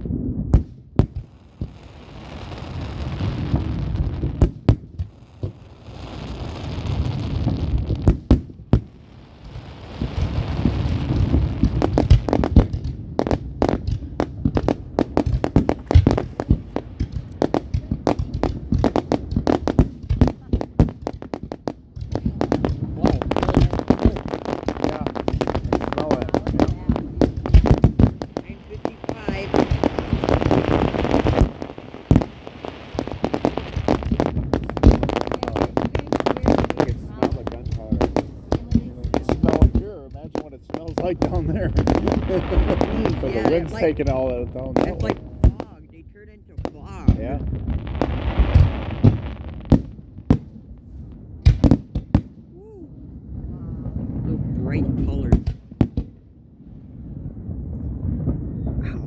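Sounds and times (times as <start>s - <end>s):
rapid crackling pops: 0.0s - 52.4s, 53.8s - 56.2s
firework bangs: 0.0s - 59.0s
firework hiss: 0.6s - 45.7s, 46.9s - 52.3s.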